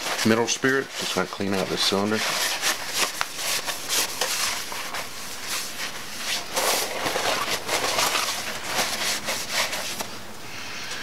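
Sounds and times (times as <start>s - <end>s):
towel rubbing swishes: 0.0s - 10.1s.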